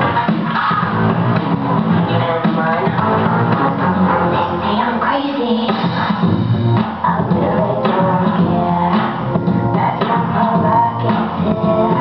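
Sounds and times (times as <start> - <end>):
belly dance music: 0.0 - 12.0.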